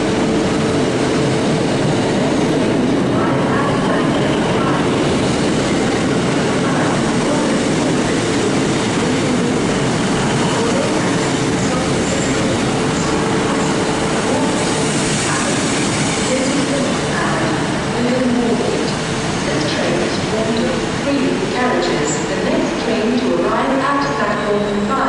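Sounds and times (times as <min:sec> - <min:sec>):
train wheels rumbling on rails: 0:00.0 - 0:24.9
train whine: 0:00.0 - 0:25.0.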